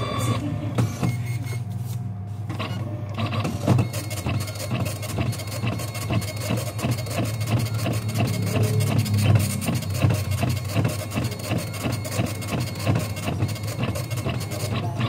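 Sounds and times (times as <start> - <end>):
dot-matrix printer chatter: 0.0 - 1.6, 2.5 - 15.0.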